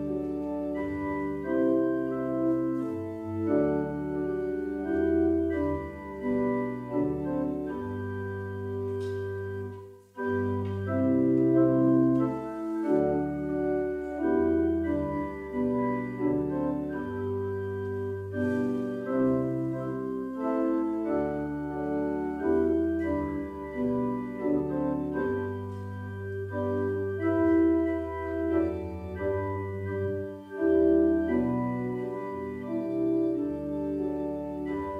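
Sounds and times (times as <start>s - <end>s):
organ playing sustained chords: 0.0s - 34.9s.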